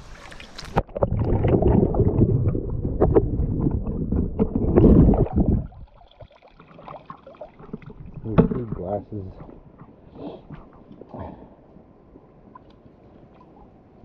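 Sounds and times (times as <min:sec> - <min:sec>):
muffled underwater river rush: 0:00.0 - 0:14.0.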